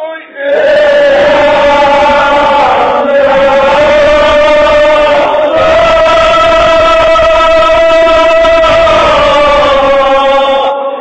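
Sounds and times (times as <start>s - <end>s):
men chanting in unison: 0.3s - 11.0s.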